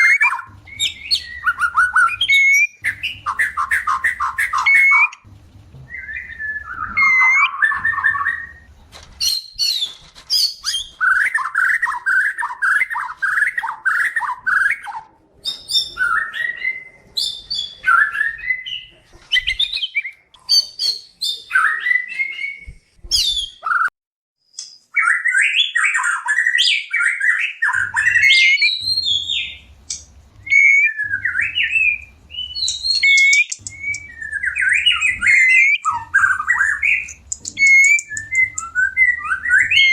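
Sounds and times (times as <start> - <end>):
bird singing varied phrases: 0.0 - 5.2, 5.9 - 23.9, 24.5 - 39.9.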